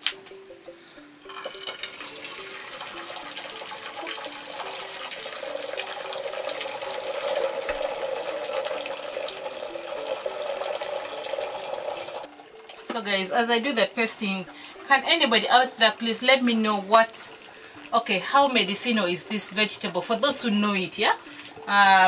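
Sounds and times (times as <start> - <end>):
water pouring between saucepans: 1.3 - 12.9, 13.6 - 21.7.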